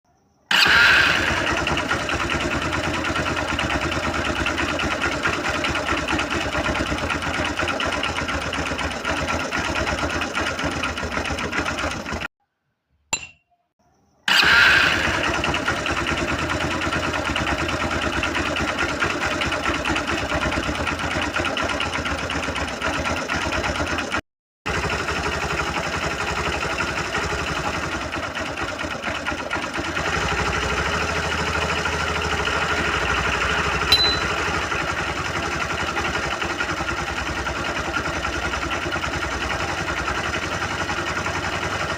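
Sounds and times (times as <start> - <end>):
small engine running: 0.5 - 12.3, 14.3 - 41.9.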